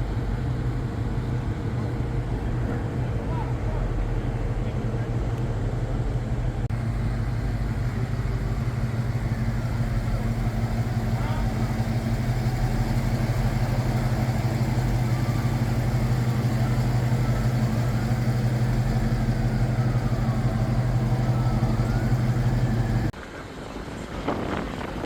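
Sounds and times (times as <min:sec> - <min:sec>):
vehicle engine idling: 0:00.0 - 0:23.2.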